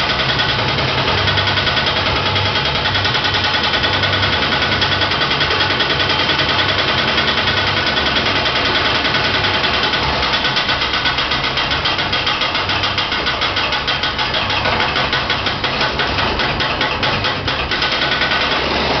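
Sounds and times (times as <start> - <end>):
power hammer striking metal: 0.0 - 19.0.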